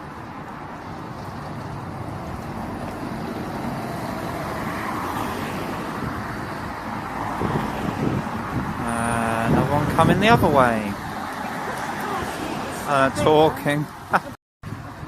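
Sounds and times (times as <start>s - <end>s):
bus driving past: 0.0s - 15.0s
road traffic: 0.0s - 15.0s.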